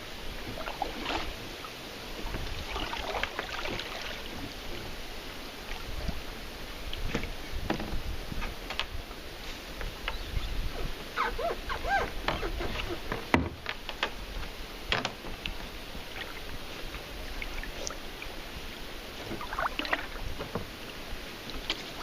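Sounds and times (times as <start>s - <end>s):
water splashing around kayak: 0.0s - 22.0s.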